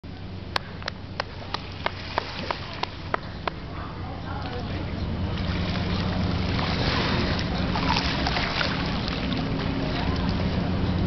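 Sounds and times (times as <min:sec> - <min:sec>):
rushing background noise: 0:00.0 - 0:11.0
steady low hum: 0:00.0 - 0:11.0
faint voices: 0:00.6 - 0:11.0.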